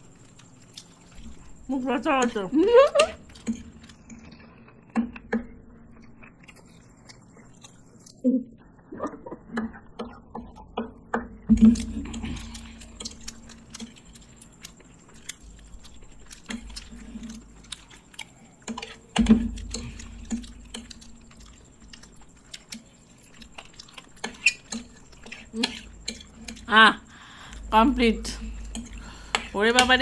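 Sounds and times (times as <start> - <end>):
chewing and biting food: 0.0 - 1.7, 3.0 - 8.2, 9.4 - 27.7, 28.4 - 30.0.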